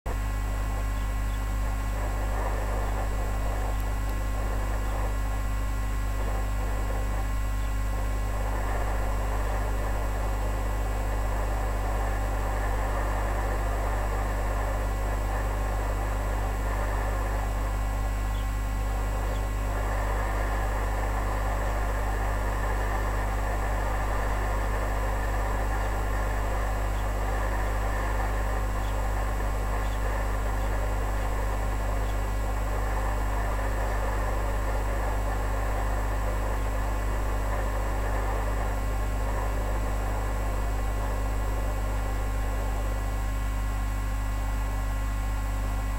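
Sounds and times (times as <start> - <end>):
low electrical hum: 0.1 - 45.9.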